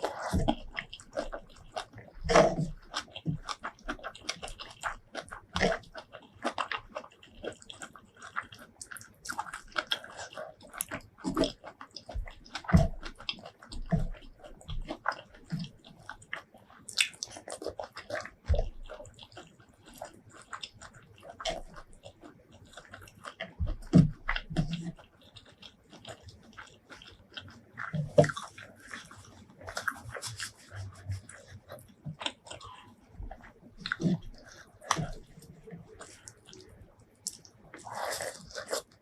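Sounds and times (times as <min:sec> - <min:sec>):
wet chewing and biting: 0:00.0 - 0:39.0.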